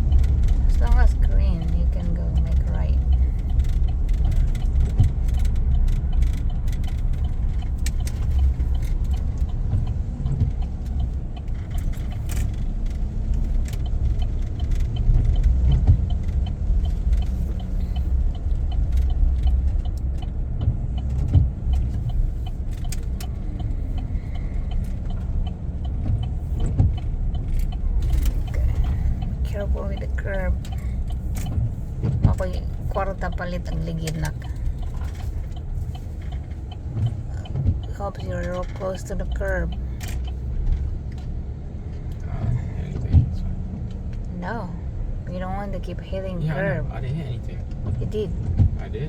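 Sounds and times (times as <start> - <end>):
light clicks and rattles: 0.0 - 44.6
truck engine and road rumble: 0.0 - 49.0.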